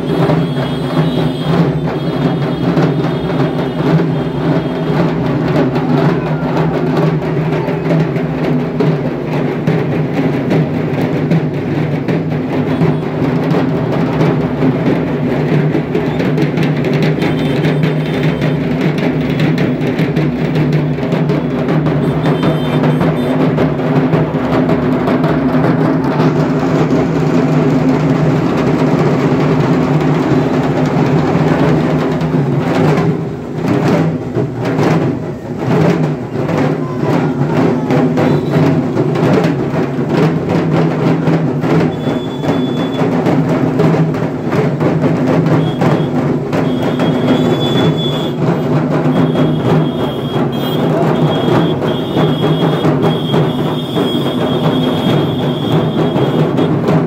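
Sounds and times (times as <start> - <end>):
barrel drums beaten with sticks: 0.0 - 57.0.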